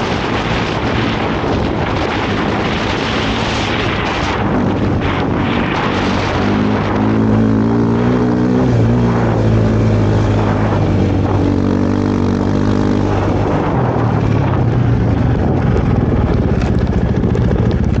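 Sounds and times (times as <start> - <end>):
snowbike engine running: 0.0 - 18.0.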